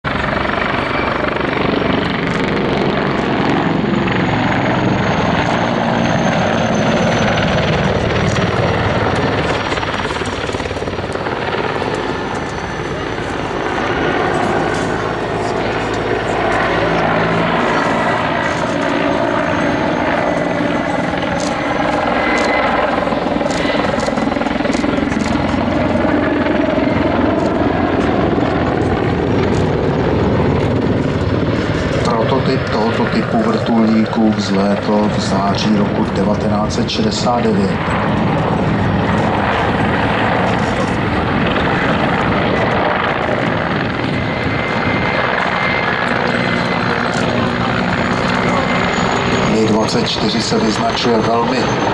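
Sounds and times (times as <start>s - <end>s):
helicopter rotor beat: 0.0s - 51.9s
turbine engine rush: 0.0s - 51.9s.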